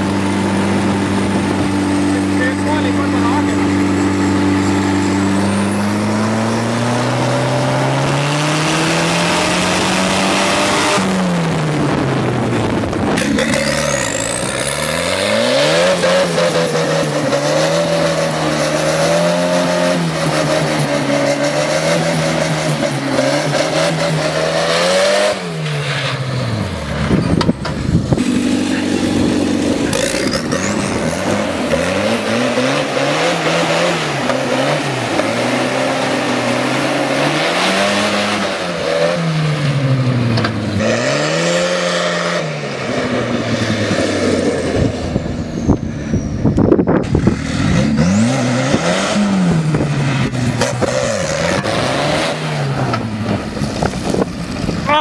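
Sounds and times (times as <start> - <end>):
tractor engine accelerating: 0.0 - 55.0.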